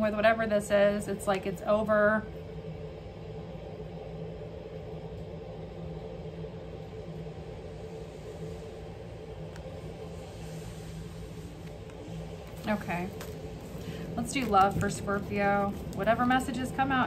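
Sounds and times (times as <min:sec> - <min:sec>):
faint hum: 0:00.0 - 0:17.0
steady low rumble: 0:00.0 - 0:17.0.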